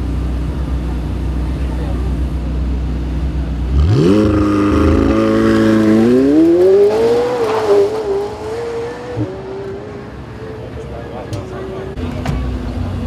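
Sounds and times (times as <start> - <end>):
sports car engine accelerating: 0.0 - 13.0.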